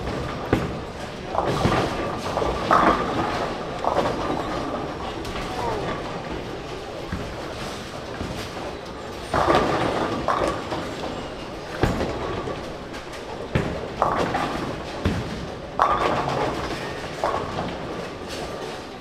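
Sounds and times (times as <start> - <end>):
bowling pins crashing: 0.0 - 18.6
bowling balls rolling: 0.0 - 19.0.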